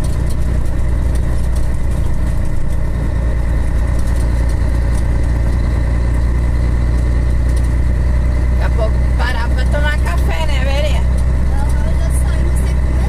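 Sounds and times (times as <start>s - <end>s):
truck diesel engine drone: 0.0s - 13.0s.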